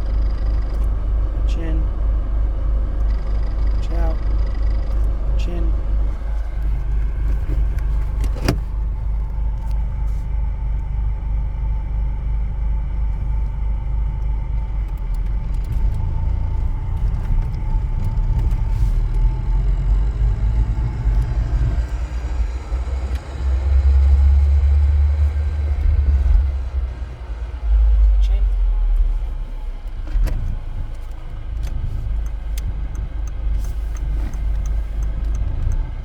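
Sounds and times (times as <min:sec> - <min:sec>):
car driving with low rumble: 0:00.0 - 0:36.0.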